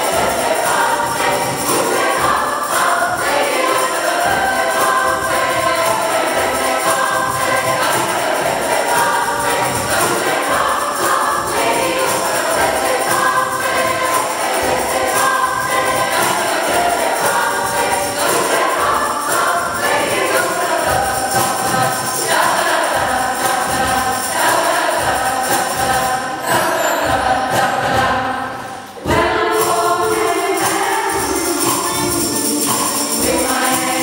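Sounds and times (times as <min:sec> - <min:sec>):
choir singing in harmony: 0:00.0 - 0:34.0.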